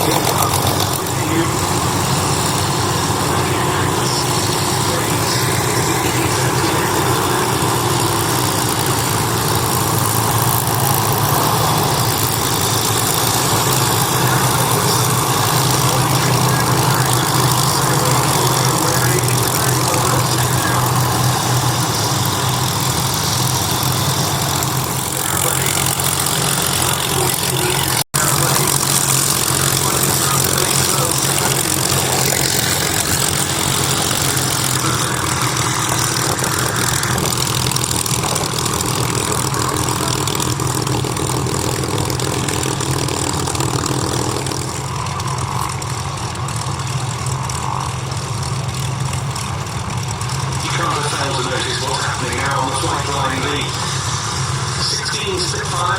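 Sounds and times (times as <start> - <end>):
piston aircraft engines idling: 0.0 - 55.9.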